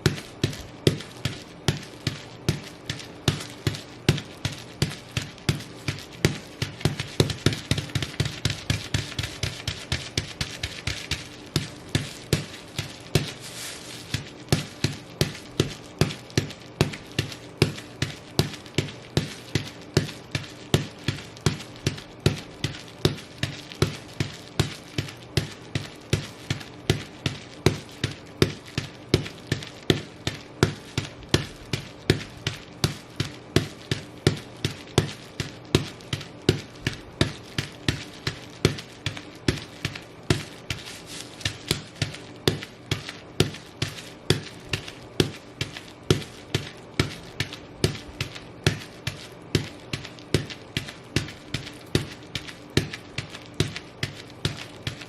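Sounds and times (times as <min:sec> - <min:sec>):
boots stomping on bubble wrap: 0:00.0 - 0:55.0.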